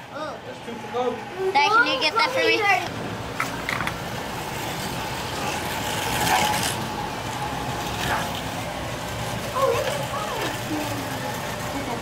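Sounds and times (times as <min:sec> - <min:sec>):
slot car motors whirring: 0:00.0 - 0:12.0.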